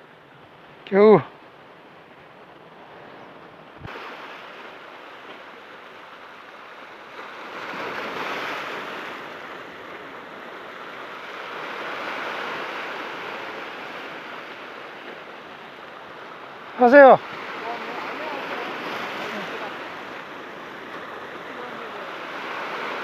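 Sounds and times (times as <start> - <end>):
surf breaking on rocks: 3.8 - 23.0.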